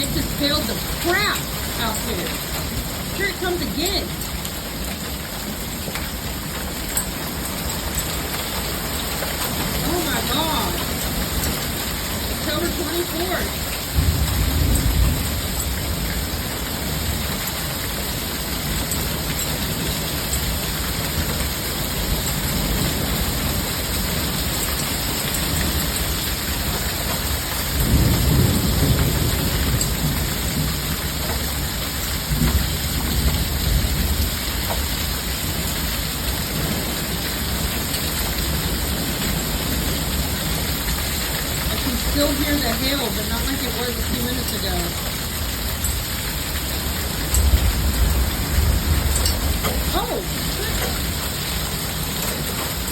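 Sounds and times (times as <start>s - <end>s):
heavy rain and hail: 0.0s - 52.9s
low rumble of thunder: 4.1s - 52.9s.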